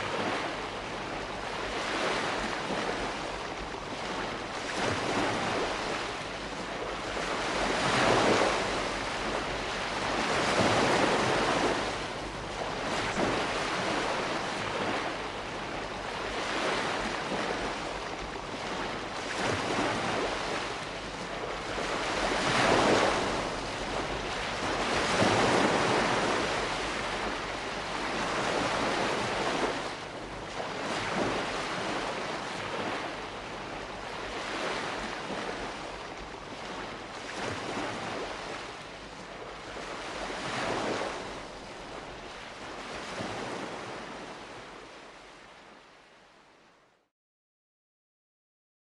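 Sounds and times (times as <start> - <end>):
small waves breaking and drawing back: 0.0 - 46.9.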